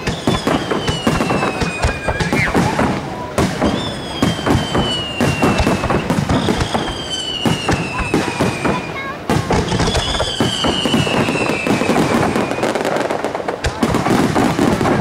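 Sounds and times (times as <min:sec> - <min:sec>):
fireworks whistles sliding down: 0:00.0 - 0:13.0
fireworks bursting and crackling: 0:00.0 - 0:15.0.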